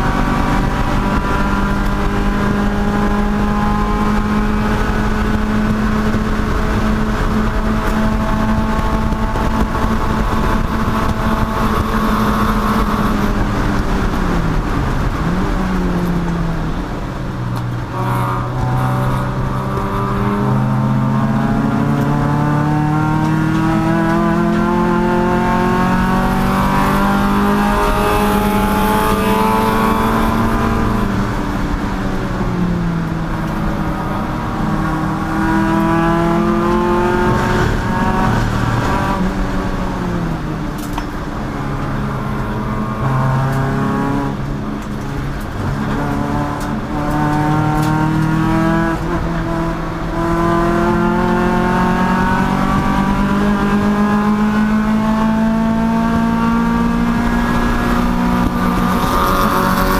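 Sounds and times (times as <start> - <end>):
race car engine revving: 0.0 - 59.9
road and wind noise: 0.0 - 59.9.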